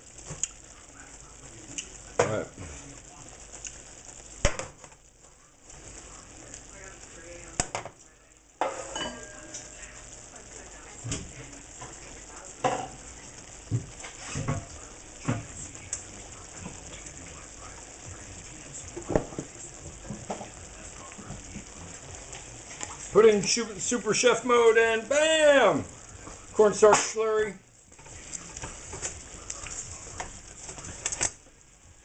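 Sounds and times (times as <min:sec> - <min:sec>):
sauce bubbling in a skillet: 0:00.0 - 0:32.0
sizzle with scattered pops: 0:00.0 - 0:32.0.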